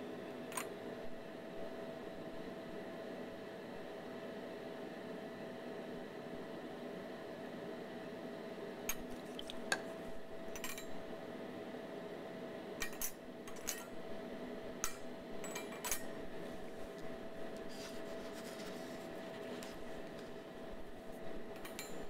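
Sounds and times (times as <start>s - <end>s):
room hum: 0.0s - 22.0s.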